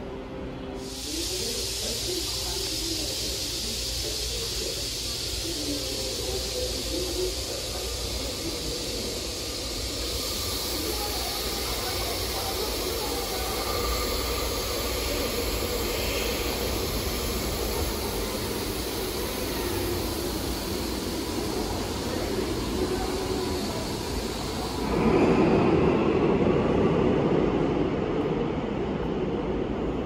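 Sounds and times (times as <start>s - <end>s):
electric train rumble: 0.0s - 30.0s
subway station hum and hiss: 0.0s - 30.0s.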